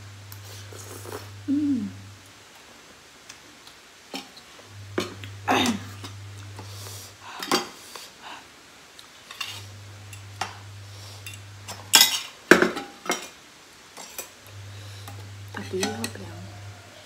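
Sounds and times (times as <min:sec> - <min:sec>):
faint low hum: 0:00.0 - 0:13.3, 0:14.2 - 0:17.0.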